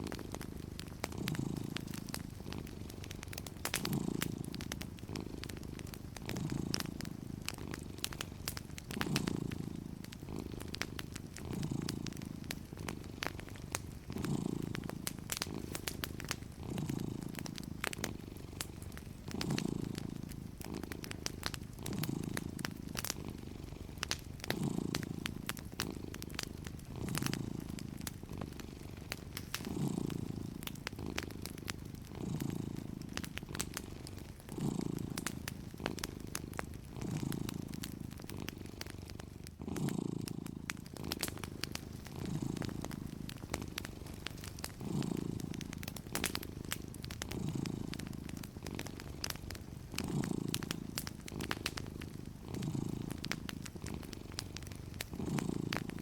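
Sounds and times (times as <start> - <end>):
cat purring: 0.0 - 56.0
wood fire crackling: 0.0 - 56.0.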